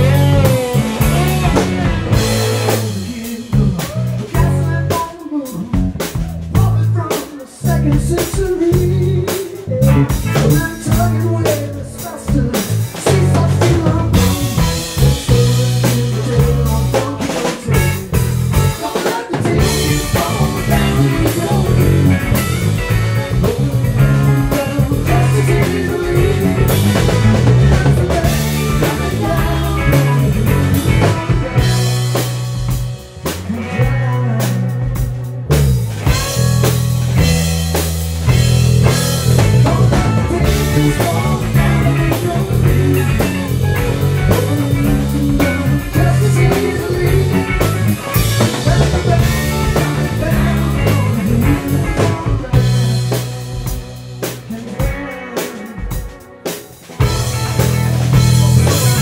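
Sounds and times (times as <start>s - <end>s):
drum kit: 0.0s - 59.0s
electric bass: 0.0s - 59.0s
electric guitars: 0.0s - 59.0s.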